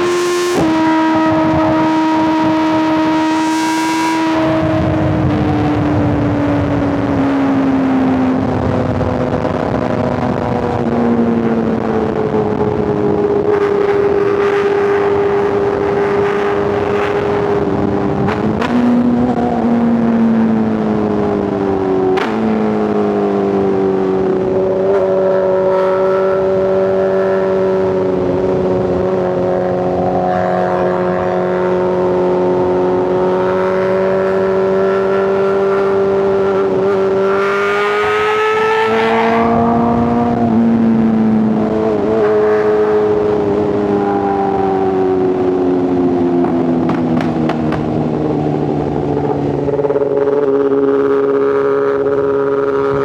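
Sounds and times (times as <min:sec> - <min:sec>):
motorcycle engines at speed: 0:00.0 - 0:53.0.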